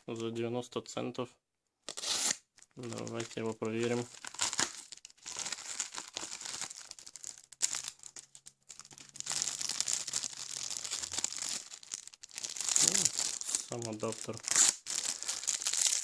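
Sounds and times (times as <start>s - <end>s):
packaging crinkling and rustling: 1.9s - 16.0s.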